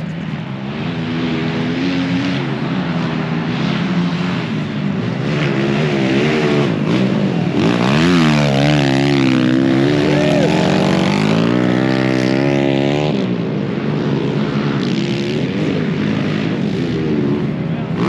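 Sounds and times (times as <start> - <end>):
pit bike engines racing: 0.0 - 18.0.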